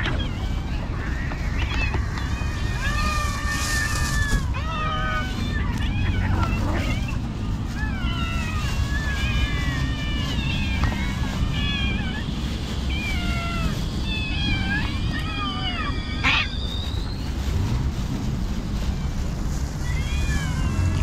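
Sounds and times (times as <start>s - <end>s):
cats meowing: 0.0s - 21.0s
steady low rumble: 0.0s - 21.0s.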